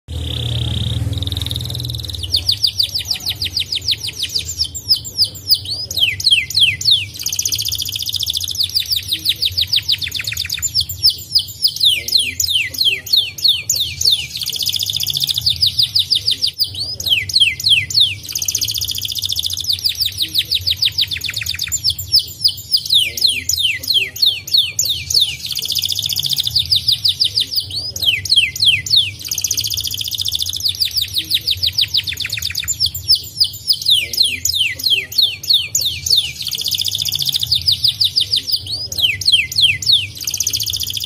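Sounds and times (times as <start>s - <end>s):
steady low hum: 0.1s - 36.5s
canary singing trills: 0.1s - 41.0s.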